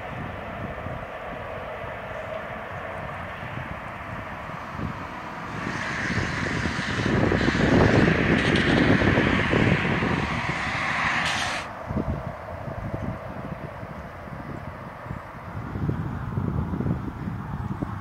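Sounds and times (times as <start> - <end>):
rushing vehicle noise: 0.0 - 18.0
wind buffeting microphone: 0.0 - 18.0.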